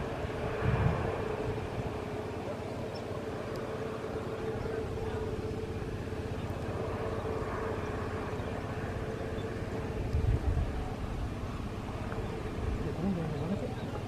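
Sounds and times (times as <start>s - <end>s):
broad rushing noise: 0.0s - 14.0s
jet engines humming: 0.0s - 14.0s.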